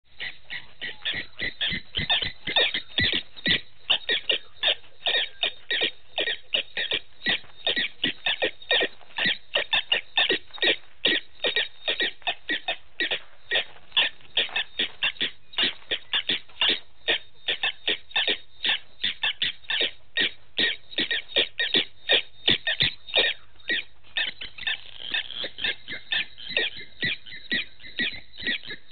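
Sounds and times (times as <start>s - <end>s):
rapid chirping animal calls: 0.1s - 28.9s.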